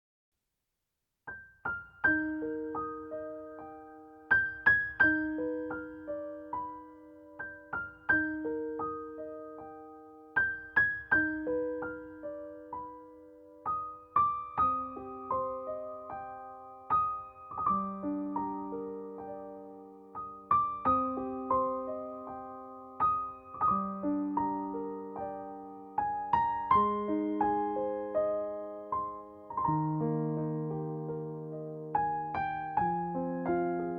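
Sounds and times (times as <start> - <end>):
solo piano: 1.2 - 33.9.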